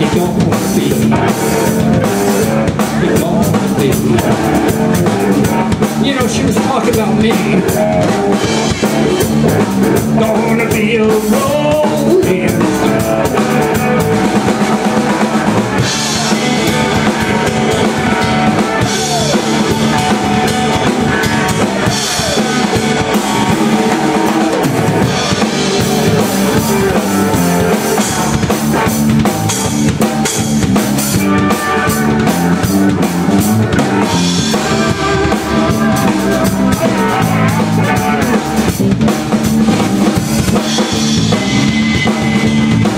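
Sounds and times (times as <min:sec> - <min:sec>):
drum kit beat: 0:00.0 - 0:42.9
electric bass: 0:00.0 - 0:42.9
electric guitar: 0:00.0 - 0:42.9.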